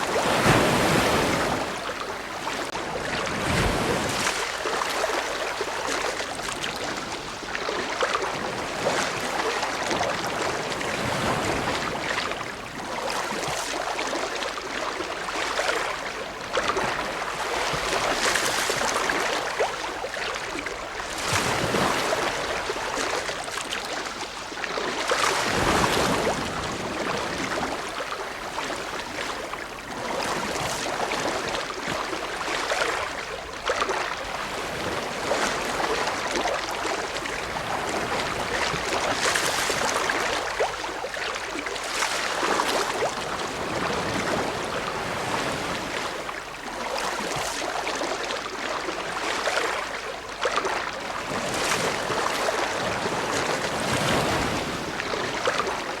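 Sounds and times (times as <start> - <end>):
ocean waves breaking: 0.0 - 12.8, 16.5 - 33.2, 33.9 - 46.3, 51.1 - 56.0.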